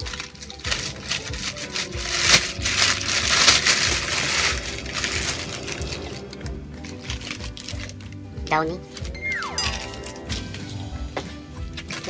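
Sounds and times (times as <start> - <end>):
plastic bag crinkling: 0.0 - 9.2, 9.8 - 12.0.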